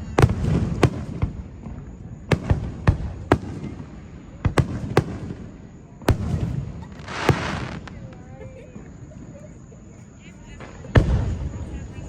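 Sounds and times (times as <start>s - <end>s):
fireworks bangs: 0.0s - 9.3s, 10.6s - 12.0s.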